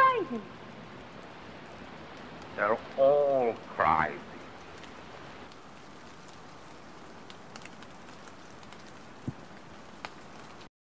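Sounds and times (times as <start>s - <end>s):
rain pattering: 0.0s - 10.7s.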